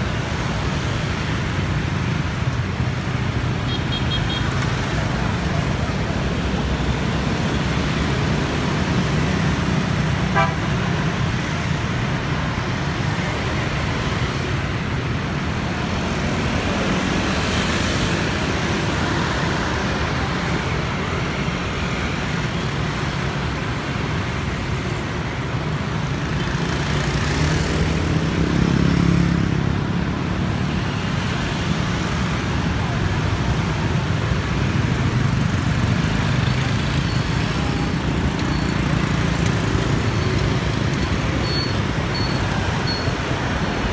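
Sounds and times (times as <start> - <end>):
traffic passing: 0.0 - 43.9.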